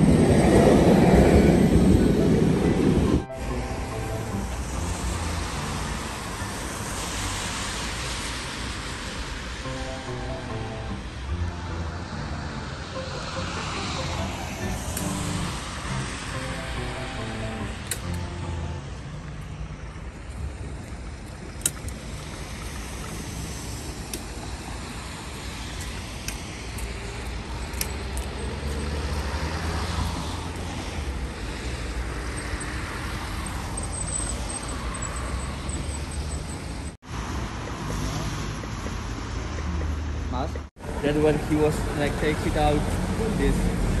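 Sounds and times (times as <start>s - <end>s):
city street traffic: 0.0s - 44.0s.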